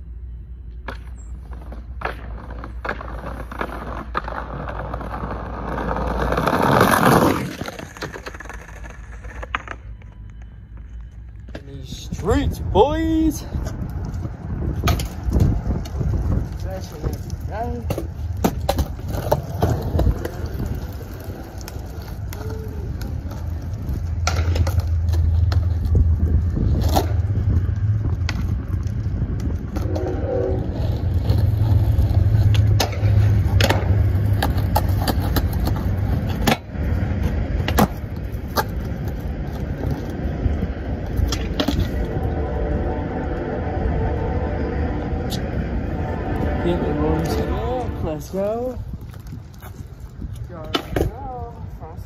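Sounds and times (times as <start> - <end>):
skateboard wheels rolling on pavement: 0.0 - 52.0
skateboard clacking on ground: 0.8 - 11.9, 13.6 - 42.1, 48.4 - 51.7.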